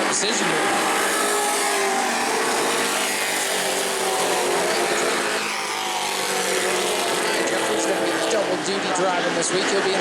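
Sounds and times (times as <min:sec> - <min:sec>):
racing truck engines running hard: 0:00.0 - 0:10.0.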